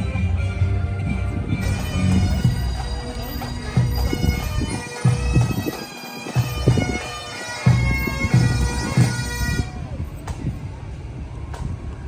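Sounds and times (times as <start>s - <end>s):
bagpipes playing over drone: 0.0s - 9.9s.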